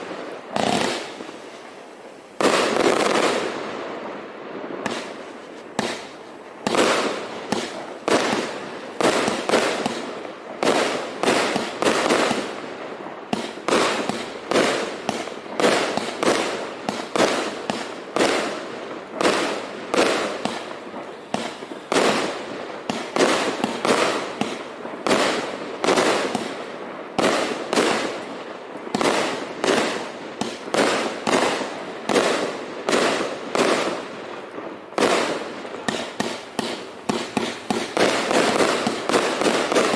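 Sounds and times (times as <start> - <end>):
fireworks firing sharp shots: 0.0 - 39.9.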